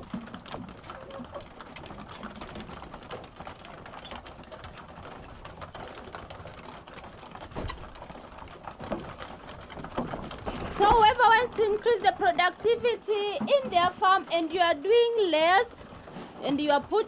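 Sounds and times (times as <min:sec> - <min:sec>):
hens pecking taps: 0:00.0 - 0:17.0.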